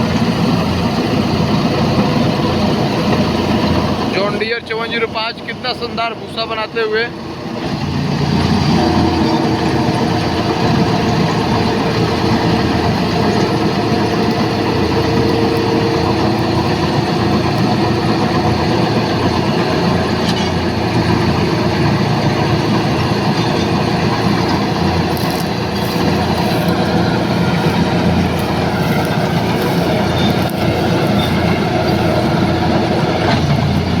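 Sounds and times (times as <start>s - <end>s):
tractor engine and chaff machine: 0.0s - 34.0s.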